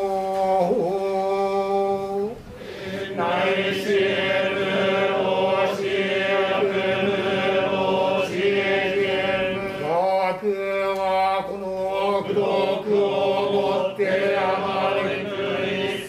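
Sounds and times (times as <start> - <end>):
monks chanting in unison: 0.0 - 16.0.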